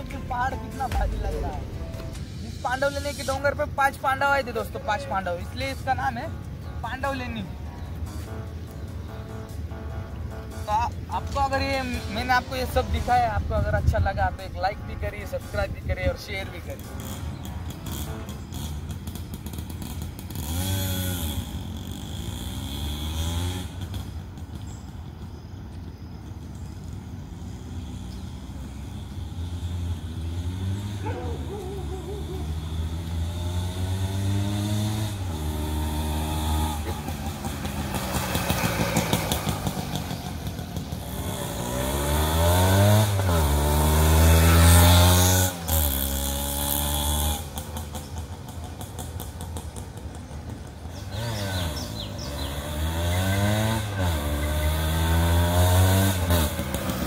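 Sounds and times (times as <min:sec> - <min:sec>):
motorcycle engine passing: 0:00.0 - 0:57.0.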